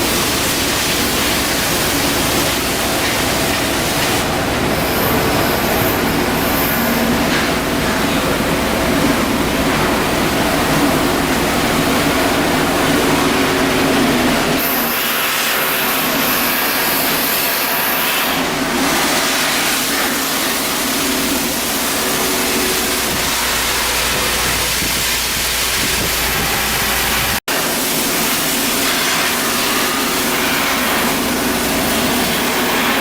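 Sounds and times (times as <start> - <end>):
deep machinery hum: 0.0 - 33.0
shipyard machinery hissing: 0.0 - 33.0.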